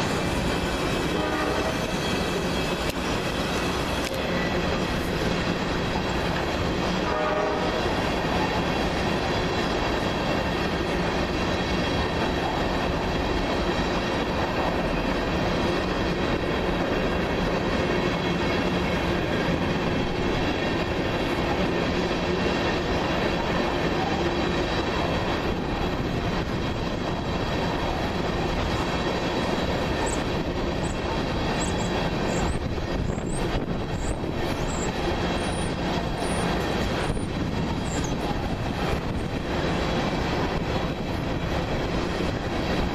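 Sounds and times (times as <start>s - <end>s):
freight train rolling past: 0.0s - 42.9s.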